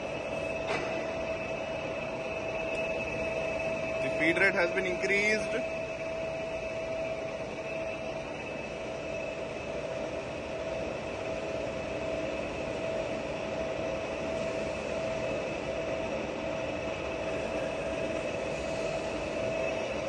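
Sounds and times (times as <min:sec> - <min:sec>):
constant mechanical whine: 0:00.0 - 0:20.0
lathe running: 0:00.0 - 0:20.0.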